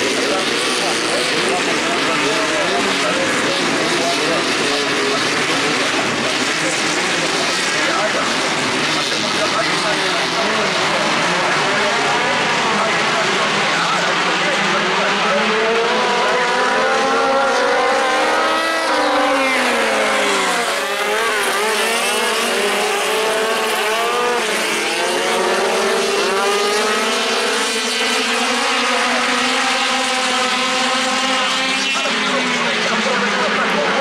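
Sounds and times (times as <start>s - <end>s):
race car engines: 0.0s - 34.0s.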